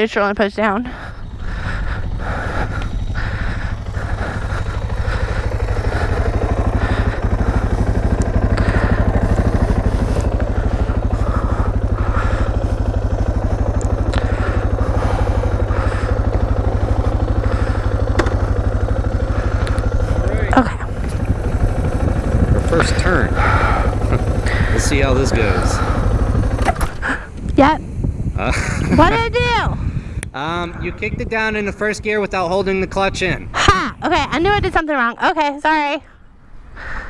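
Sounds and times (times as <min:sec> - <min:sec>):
single-cylinder motorcycle engine running: 0:00.0 - 0:30.4.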